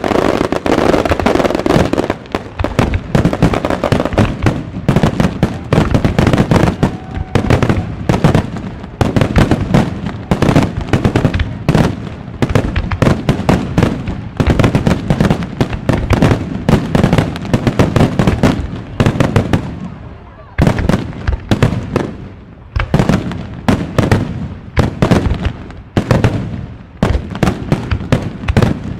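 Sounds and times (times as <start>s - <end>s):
fireworks booming and cracking: 0.0s - 28.9s.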